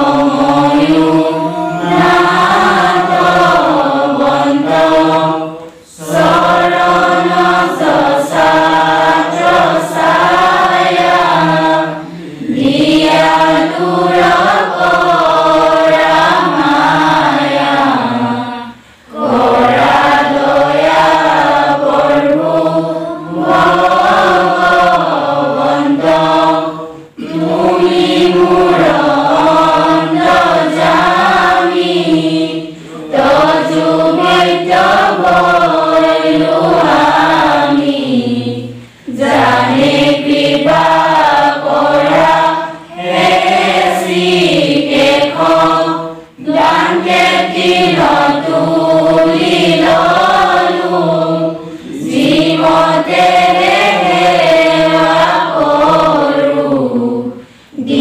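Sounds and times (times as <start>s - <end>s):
group chanting a prayer: 0.0s - 58.0s.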